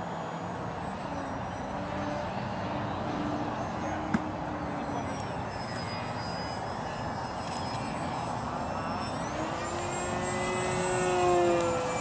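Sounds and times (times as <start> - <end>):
model plane motor whining: 0.7 - 12.0.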